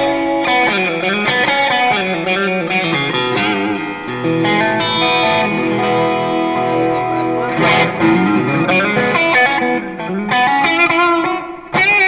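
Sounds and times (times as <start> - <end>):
electric guitar lead phrase: 0.0 - 12.0
guitar chord ringing: 0.0 - 12.0.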